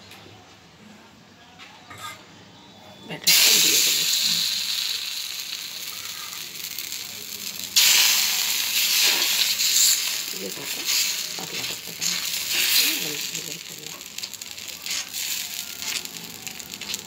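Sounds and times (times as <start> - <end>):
batter sizzling on hot pan: 3.2 - 17.0.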